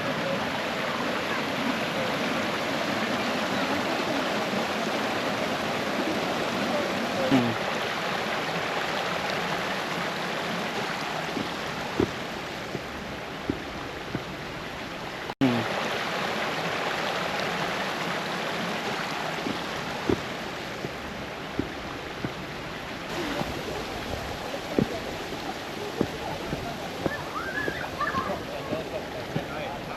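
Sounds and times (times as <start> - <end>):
brook water rushing over stones: 0.0 - 29.9.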